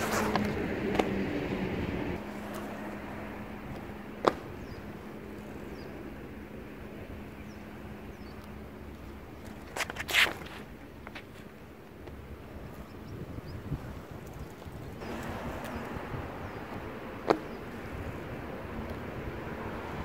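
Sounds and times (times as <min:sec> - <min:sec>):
bike tyres on concrete: 0:00.0 - 0:20.0.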